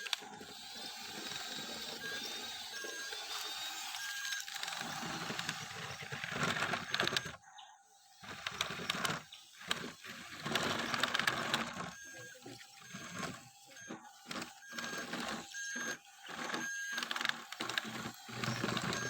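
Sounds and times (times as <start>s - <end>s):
toy motor whirring: 0.0s - 19.0s
plastic clicking and rattling: 1.2s - 7.4s, 8.2s - 19.0s.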